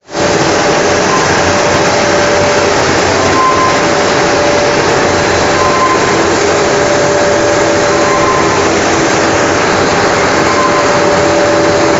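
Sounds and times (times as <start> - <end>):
production line machinery running: 0.0 - 11.9
faint machine whine: 0.1 - 11.9.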